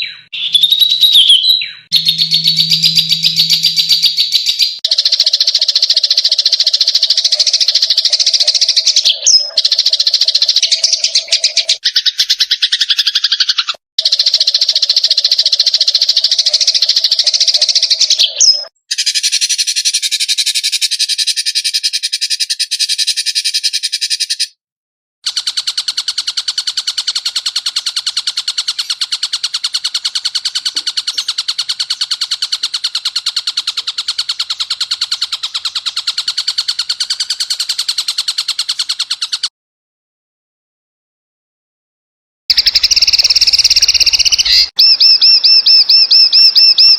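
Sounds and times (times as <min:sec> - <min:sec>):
fast high-pitched bird trills: 0:00.0 - 0:24.6, 0:25.3 - 0:39.5, 0:42.5 - 0:46.9.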